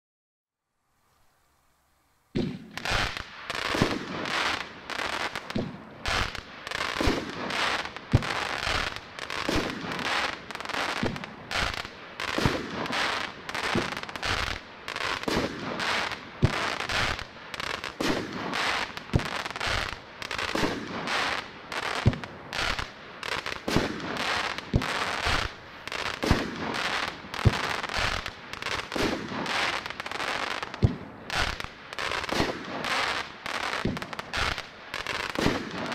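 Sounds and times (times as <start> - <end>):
fireworks bursting: 2.3 - 35.9
fireworks launching: 2.3 - 35.9.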